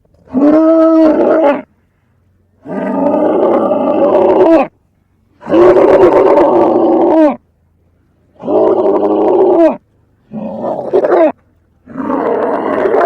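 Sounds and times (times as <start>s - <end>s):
reversed camel calls: 0.1s - 1.8s, 2.5s - 7.4s, 8.2s - 13.0s.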